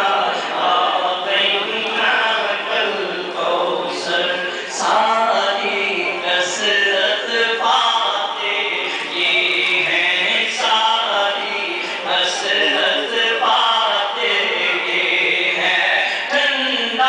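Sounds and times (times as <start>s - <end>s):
man chanting into microphone: 0.0s - 17.0s.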